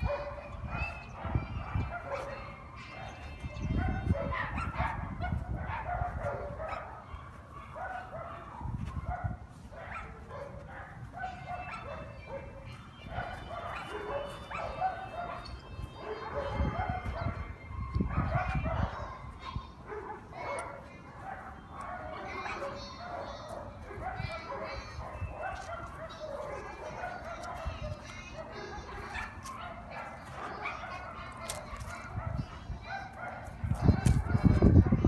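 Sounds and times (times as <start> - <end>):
dogs yipping and barking: 0.0 - 35.0.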